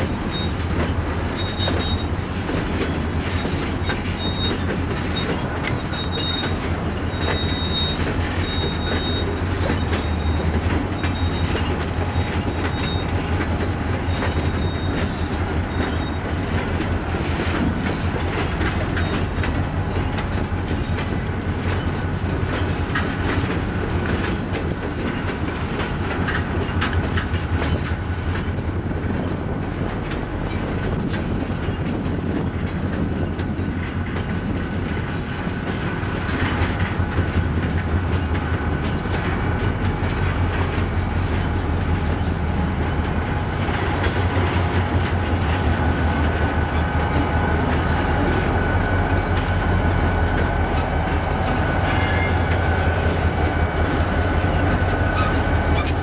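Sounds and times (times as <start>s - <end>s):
faint high wheel squeal: 0.0s - 26.4s, 31.8s - 56.0s
freight train rumbling past: 0.0s - 56.0s
wheels clacking over rail joints: 0.0s - 56.0s.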